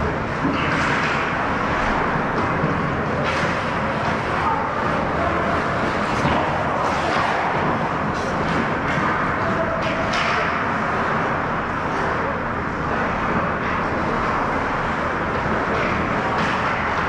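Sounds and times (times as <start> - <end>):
ice rink din: 0.0 - 17.0.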